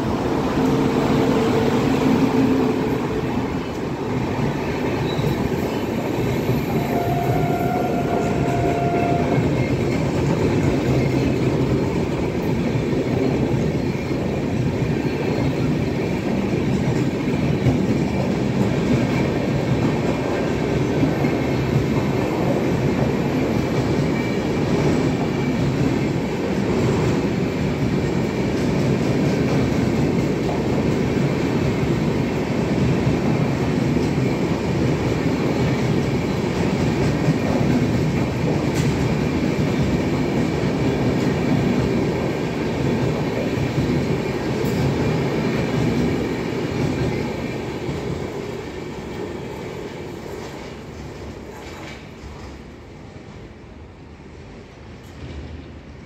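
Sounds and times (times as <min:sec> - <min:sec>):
electric locomotive passing: 0:00.0 - 0:56.0
train wheels rumbling on rail: 0:00.0 - 0:56.0.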